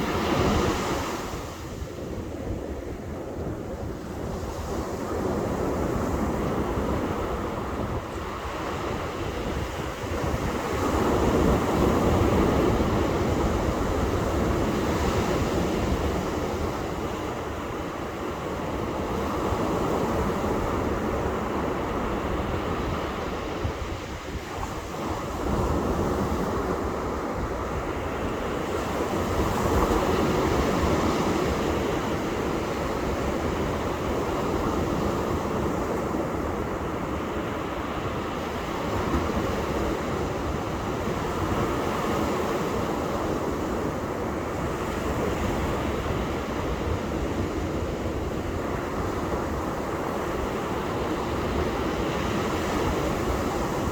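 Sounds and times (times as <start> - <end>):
surf breaking on a beach: 0.0 - 53.9.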